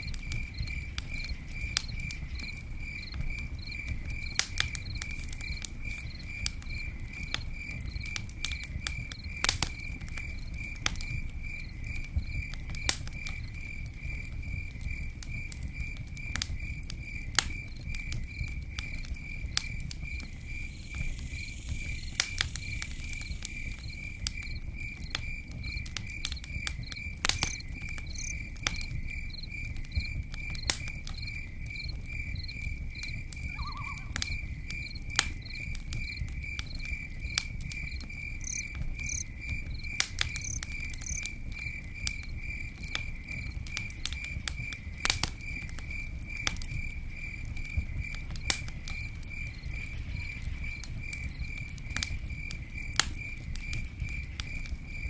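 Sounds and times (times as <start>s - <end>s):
insect chirping: 0.0s - 15.9s, 16.5s - 55.0s
campfire crackling: 0.0s - 55.0s.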